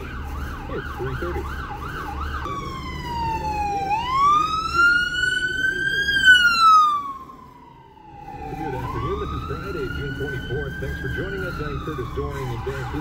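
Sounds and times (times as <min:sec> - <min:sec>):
ambulance siren wailing: 0:00.0 - 0:13.0.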